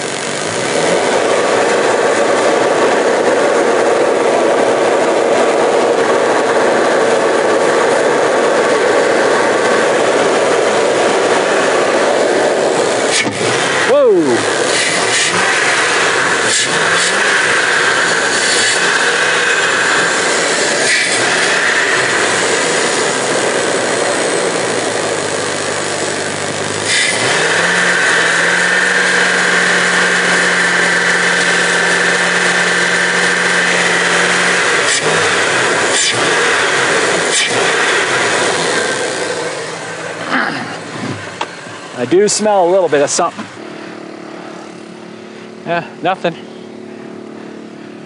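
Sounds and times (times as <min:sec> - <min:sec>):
van engine intake noise: 0:00.0 - 0:48.0.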